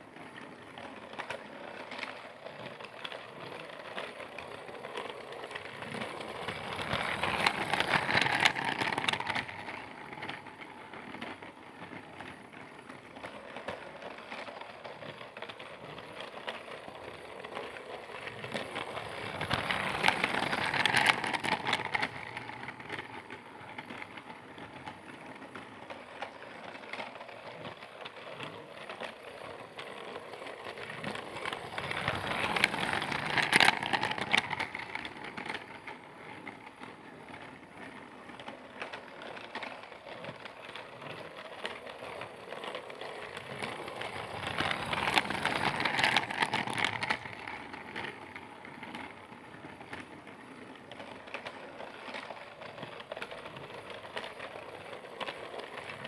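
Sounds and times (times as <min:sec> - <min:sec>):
toy train motor and wheels rattling: 0:00.0 - 0:56.0.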